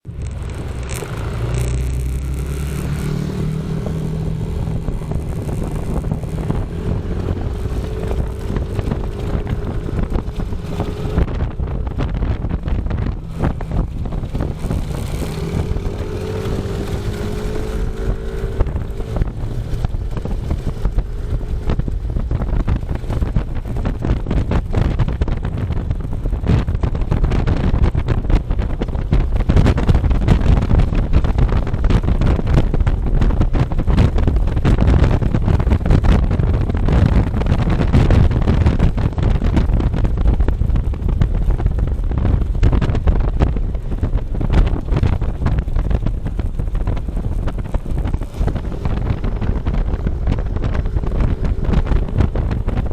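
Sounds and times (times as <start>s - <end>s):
vehicle engine running: 0.0s - 52.9s
wind rumble on microphone: 0.0s - 52.9s.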